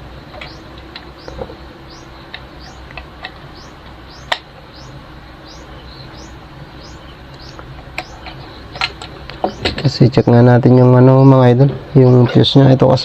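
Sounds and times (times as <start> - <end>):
small bird chirping: 0.3 - 12.6.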